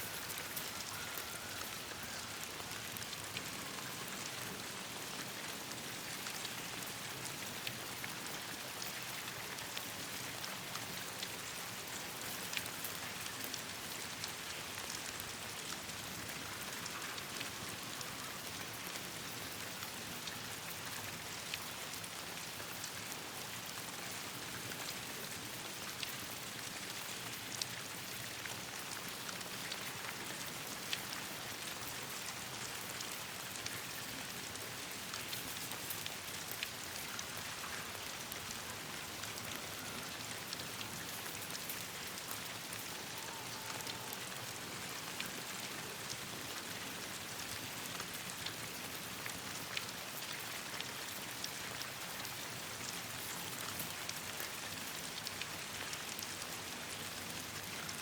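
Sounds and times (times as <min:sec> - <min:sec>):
rain on leaves: 0:00.0 - 0:58.0.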